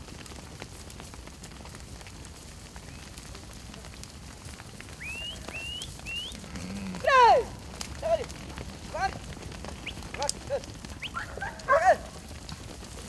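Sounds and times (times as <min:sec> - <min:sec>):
sheep hooves clicking and rustling: 0:00.0 - 0:13.0.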